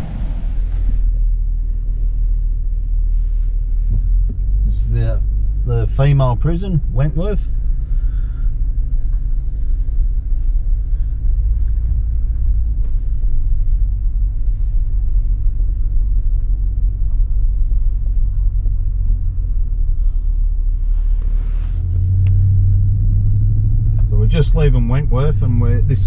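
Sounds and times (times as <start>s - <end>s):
engine and road noise rumble: 0.0s - 26.0s.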